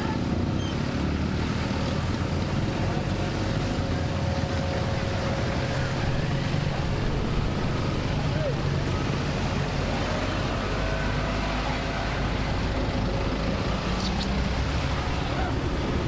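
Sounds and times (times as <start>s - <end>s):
aircraft engine rumble and hiss: 0.0s - 16.0s.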